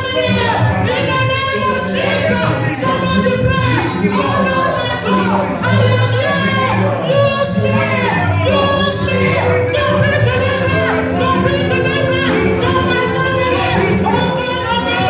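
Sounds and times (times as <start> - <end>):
band playing: 0.0 - 15.0
congregation singing gospel: 0.0 - 15.0.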